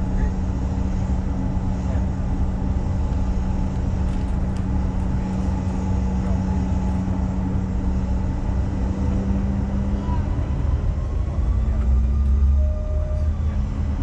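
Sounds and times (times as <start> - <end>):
jet engine cabin hum: 0.0 - 14.0.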